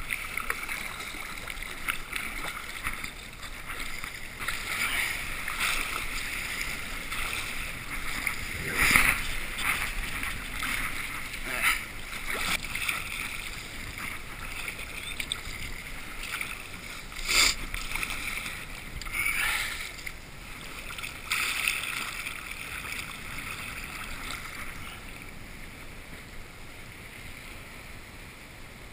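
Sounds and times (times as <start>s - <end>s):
water sloshing and rushing: 0.0s - 28.9s.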